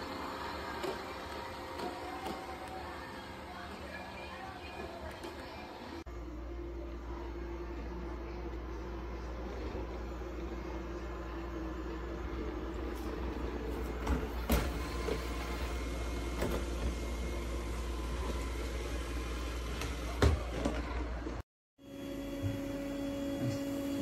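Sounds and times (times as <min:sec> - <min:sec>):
robot vacuum hum: 0:00.0 - 0:24.0.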